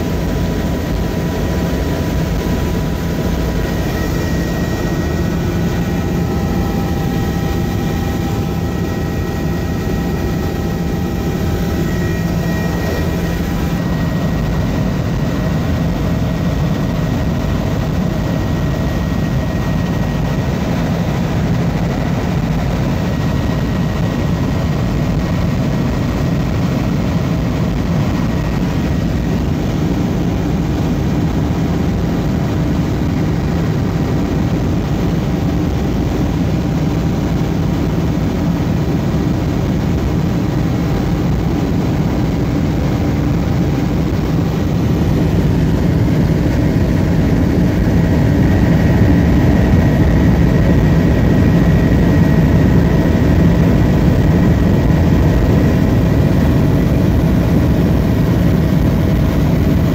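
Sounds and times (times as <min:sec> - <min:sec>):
helicopter engine and rotor drone: 0:00.0 - 0:59.9
thin high whine: 0:00.0 - 0:59.9.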